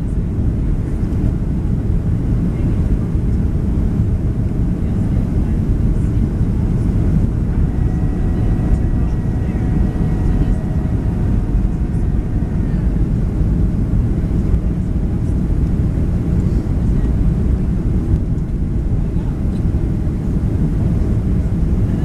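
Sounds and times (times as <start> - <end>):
airplane cabin engine rumble: 0.0 - 22.0
faint engine tones: 0.0 - 22.0.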